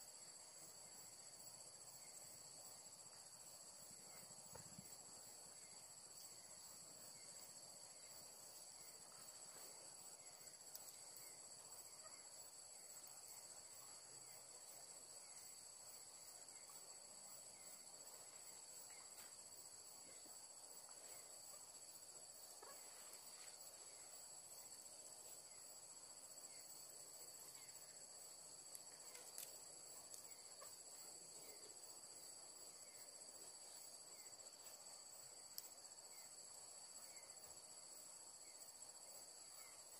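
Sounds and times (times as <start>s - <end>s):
night insects droning: 0.0s - 39.9s.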